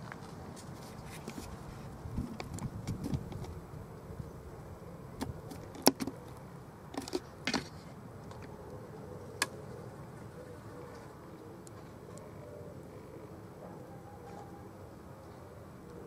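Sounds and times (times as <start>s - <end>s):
steady low background noise: 0.0s - 16.0s.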